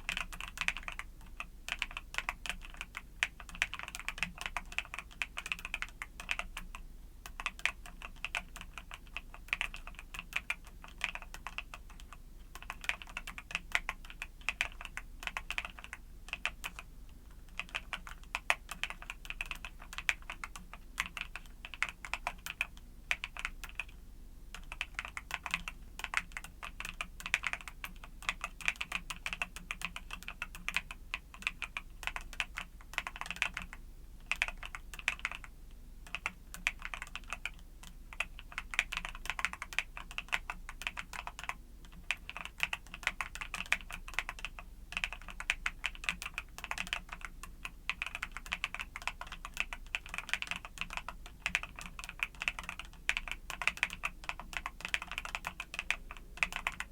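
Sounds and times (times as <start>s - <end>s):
mechanical keyboard typing: 0.0s - 16.9s, 17.5s - 56.9s.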